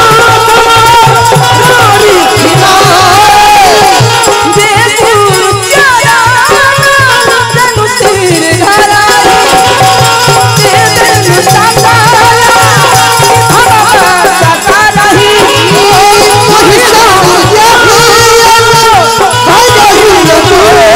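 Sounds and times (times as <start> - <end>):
dholak drum beat: 0.0 - 20.9
harmonium chords: 0.0 - 20.9
person singing: 0.0 - 20.9
rattling percussion: 0.0 - 20.9.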